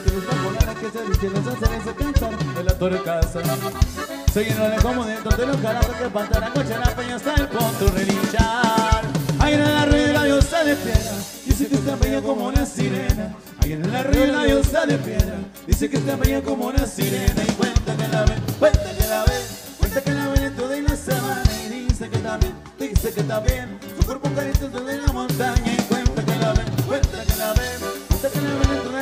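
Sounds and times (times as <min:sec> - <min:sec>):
button accordion: 0:00.0 - 0:29.0
drum kit beat: 0:00.0 - 0:29.0
electric bass: 0:00.0 - 0:29.0
twelve-string guitar: 0:00.0 - 0:29.0.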